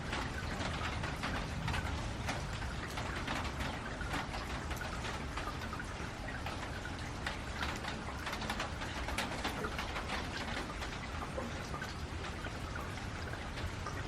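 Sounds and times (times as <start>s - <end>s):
rain on a metal roof: 0.0s - 14.0s.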